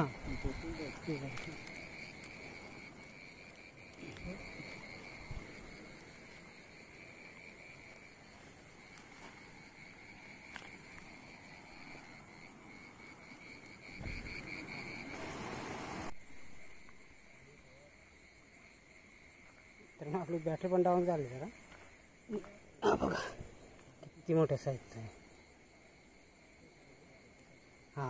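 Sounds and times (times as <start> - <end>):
frogs calling: 0.0 - 26.7
insects trilling: 0.0 - 28.0.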